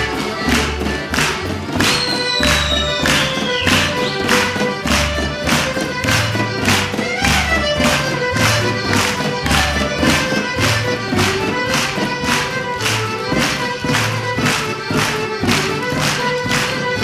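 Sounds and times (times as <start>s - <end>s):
fast folk dance music: 0.0s - 17.0s.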